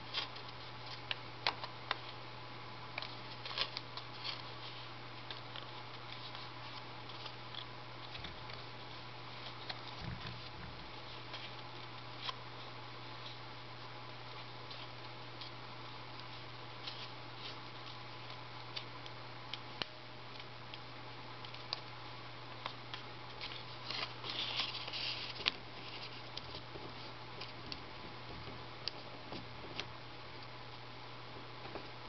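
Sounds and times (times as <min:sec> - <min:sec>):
paper crackling and rustling: 0:00.0 - 0:02.2, 0:02.9 - 0:20.8, 0:21.4 - 0:30.5
steady low hum: 0:00.0 - 0:32.0.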